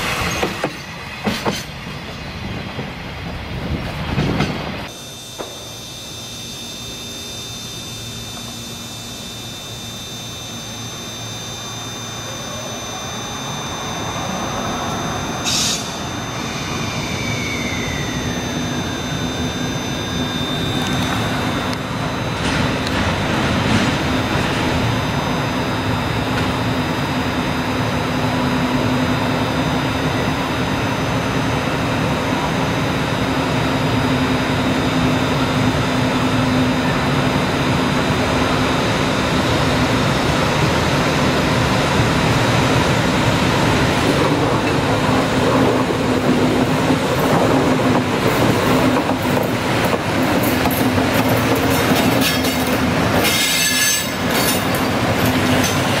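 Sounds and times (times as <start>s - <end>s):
electric locomotive hum: 0.0s - 56.0s.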